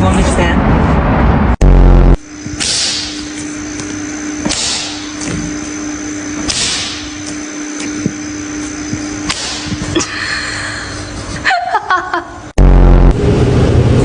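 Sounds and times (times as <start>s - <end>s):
machine hum with high whine: 0.0s - 14.0s.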